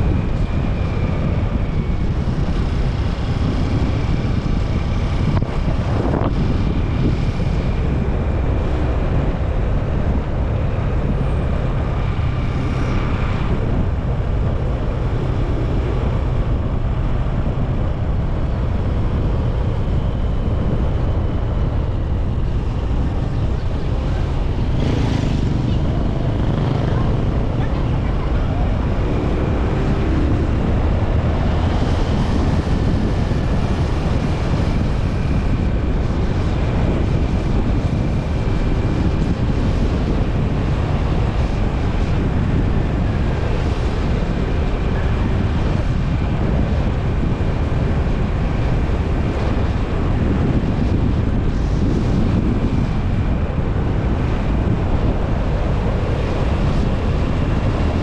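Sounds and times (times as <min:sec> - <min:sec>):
wind rushing over microphone: 0:00.0 - 0:58.0
motorcycle engine running: 0:01.0 - 0:58.0.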